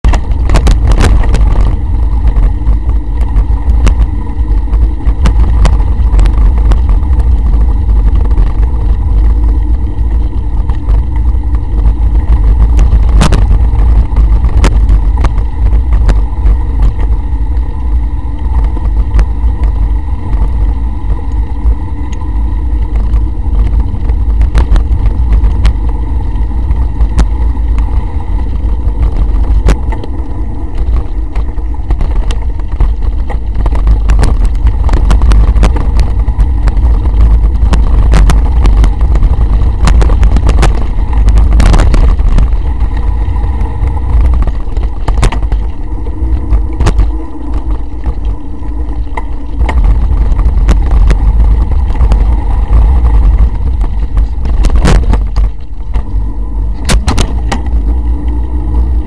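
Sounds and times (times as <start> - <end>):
bike clicks and rattles: 0.0 - 56.1
wind and trail rumble: 0.0 - 59.0.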